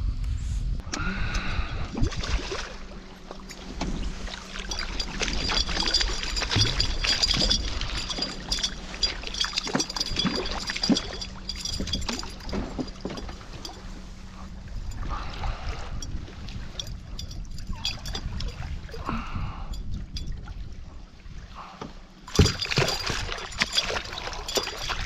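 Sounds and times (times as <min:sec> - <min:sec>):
steady low hum: 0:00.0 - 0:25.0
fish splashing and thrashing: 0:01.7 - 0:19.4, 0:22.2 - 0:25.0
water slapping against hull: 0:01.8 - 0:19.2, 0:19.8 - 0:25.0.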